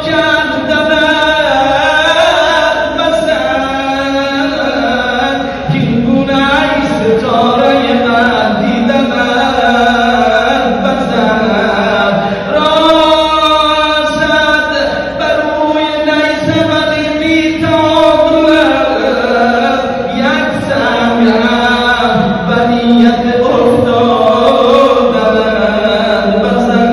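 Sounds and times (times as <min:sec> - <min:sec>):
man chanting a lament: 0:00.0 - 0:26.9.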